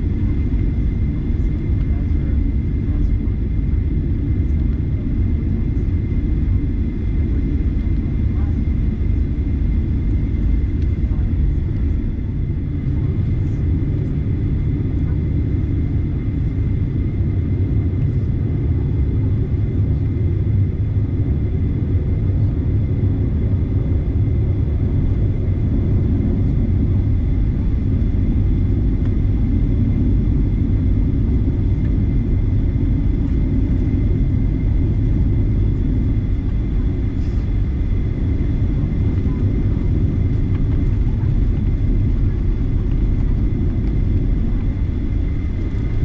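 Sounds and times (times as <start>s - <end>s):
jet engines rumbling in cabin: 0.0s - 46.0s.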